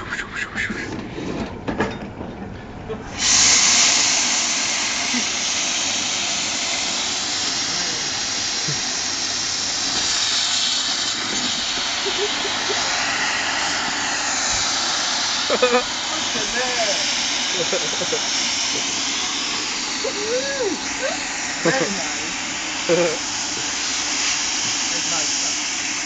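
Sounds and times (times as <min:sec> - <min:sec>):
steam wand hissing: 0:00.0 - 0:01.0, 0:03.1 - 0:26.0.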